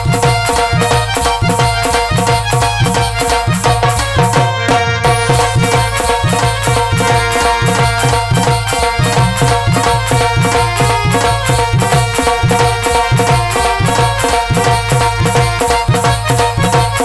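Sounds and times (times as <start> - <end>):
hand drum beat: 0.0 - 17.0
held melody notes: 0.0 - 17.0.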